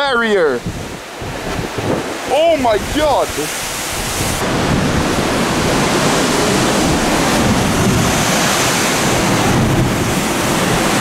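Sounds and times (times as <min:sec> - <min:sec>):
storm surf breaking on rocks: 0:00.0 - 0:11.0
wind buffeting microphone: 0:00.0 - 0:11.0.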